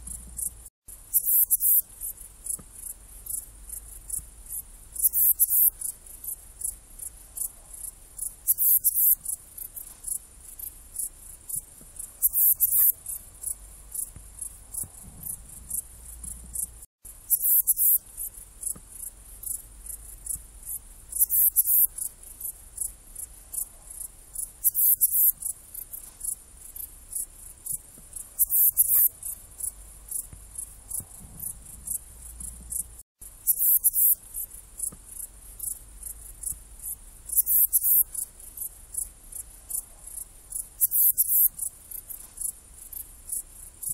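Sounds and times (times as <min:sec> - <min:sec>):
bush-cricket chirping: 0:00.0 - 0:43.9.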